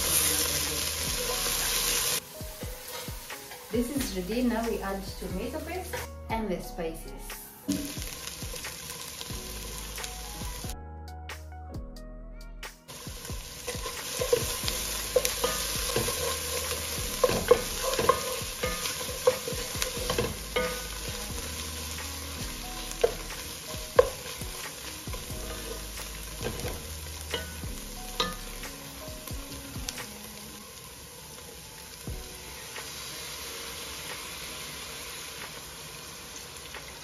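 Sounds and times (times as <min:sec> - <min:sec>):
onions sizzling in hot oil: 0:00.0 - 0:10.8, 0:12.9 - 0:37.0.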